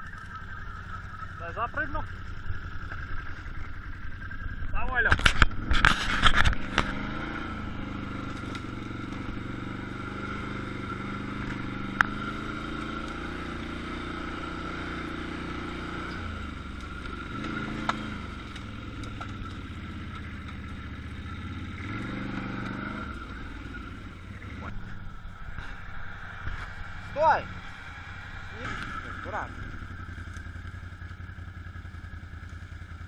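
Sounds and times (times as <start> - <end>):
quad bike engine running: 0.0 - 33.0.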